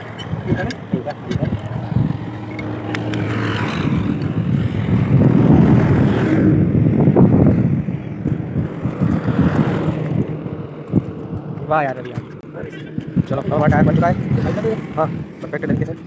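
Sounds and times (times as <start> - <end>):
engine hum: 0.0 - 16.0.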